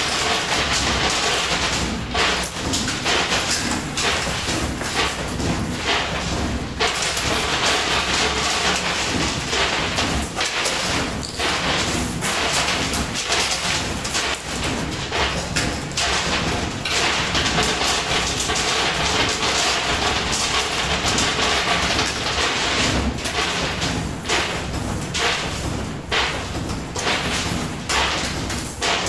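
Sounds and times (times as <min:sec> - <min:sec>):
arcade machine noise: 0:00.0 - 0:29.0
coins clattering: 0:00.0 - 0:29.0.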